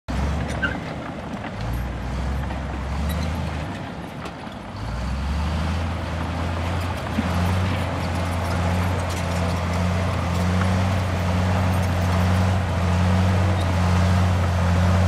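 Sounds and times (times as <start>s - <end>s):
bulldozer diesel engine running: 0.1s - 15.0s.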